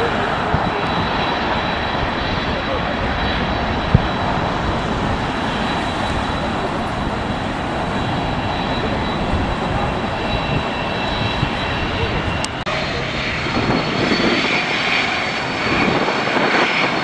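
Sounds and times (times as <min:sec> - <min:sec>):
jet engine noise: 0:00.0 - 0:17.0.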